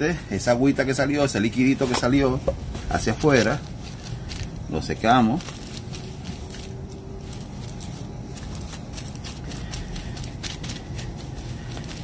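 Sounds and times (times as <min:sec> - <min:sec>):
paper towel crinkling on foil: 0:00.1 - 0:12.0.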